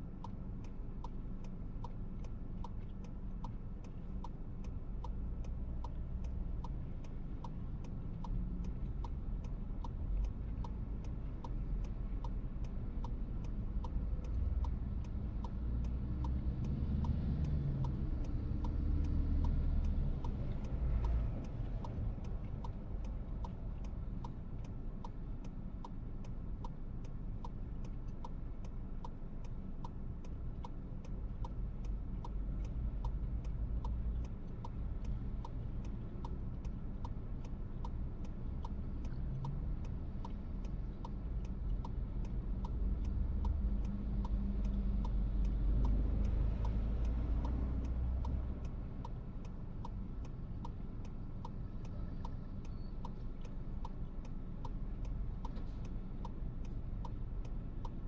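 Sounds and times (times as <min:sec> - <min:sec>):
car engine and road noise: 0:00.0 - 0:58.0
turn signal ticking: 0:00.0 - 0:58.0.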